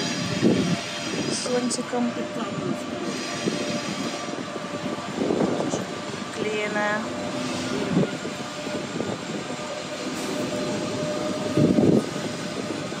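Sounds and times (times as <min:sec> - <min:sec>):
passing train rumble and whine: 0:00.0 - 0:13.0.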